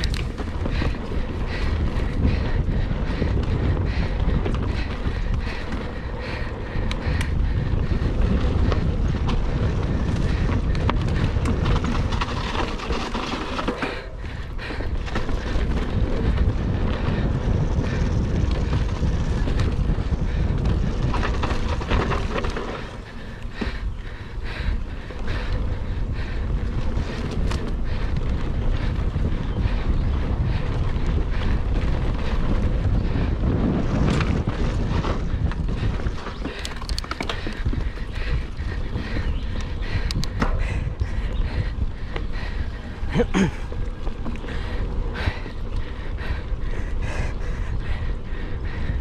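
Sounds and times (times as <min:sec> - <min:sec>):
bike rattling and clicking: 0:00.0 - 0:49.0
bike tyre noise: 0:00.0 - 0:49.0
wind buffeting microphone: 0:00.0 - 0:49.0.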